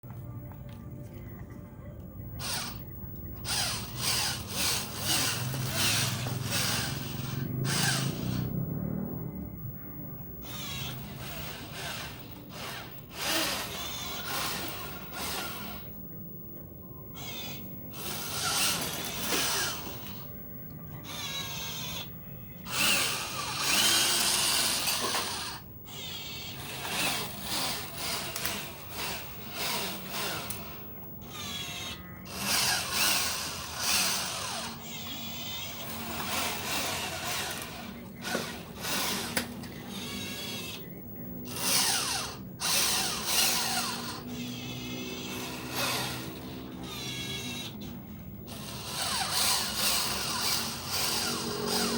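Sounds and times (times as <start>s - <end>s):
toy truck electric motor whining: 2.4s - 51.9s.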